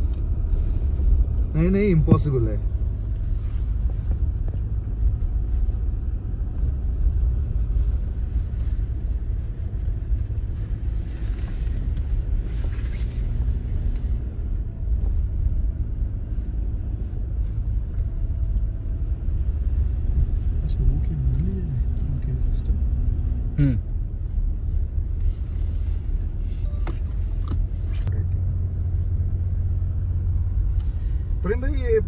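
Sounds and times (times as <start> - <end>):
car engine and tyres rumbling on snow: 0.0 - 32.0.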